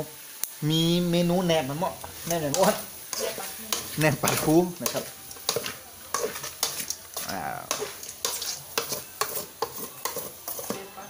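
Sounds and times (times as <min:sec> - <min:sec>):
chicken sizzling in oil: 0:00.0 - 0:11.0
metal spatula scraping a pot: 0:02.1 - 0:11.0.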